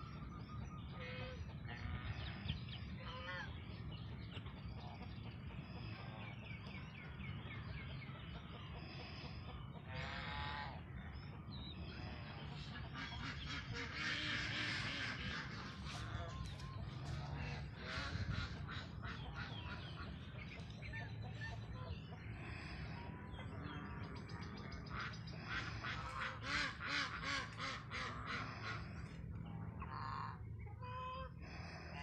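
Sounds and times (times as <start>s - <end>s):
drawn-out bird call: 0.0s - 32.0s
young birds peeping: 0.0s - 32.0s.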